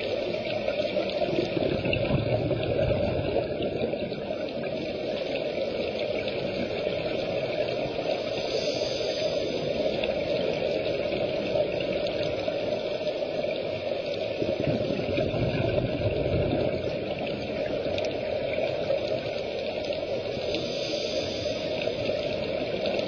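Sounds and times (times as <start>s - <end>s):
muffled underwater rushing: 0.0s - 23.0s.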